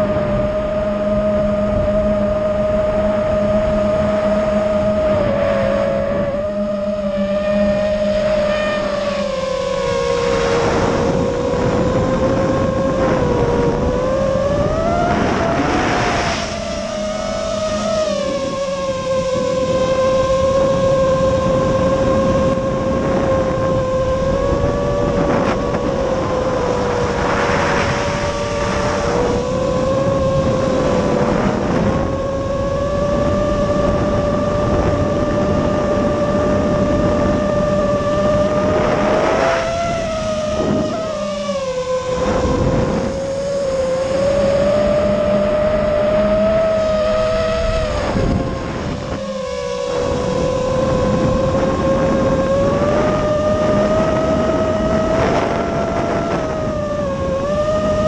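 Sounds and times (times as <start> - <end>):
drone motors whining: 0.0 - 58.0
wind noise: 0.0 - 58.0.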